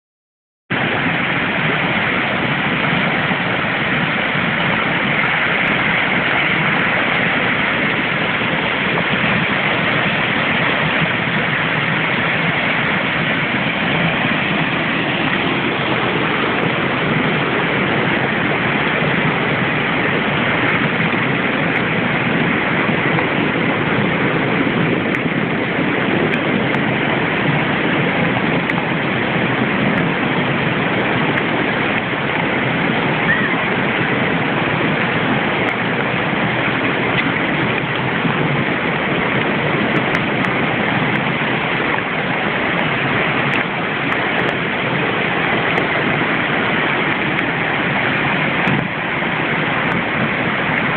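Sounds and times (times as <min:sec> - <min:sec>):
floodwater rushing over walls: 0:00.7 - 0:50.9.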